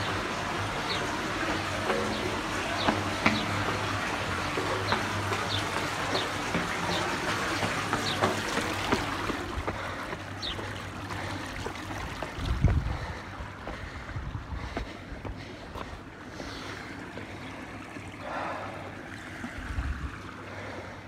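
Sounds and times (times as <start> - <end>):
water trickling in drain: 0.0 - 21.0.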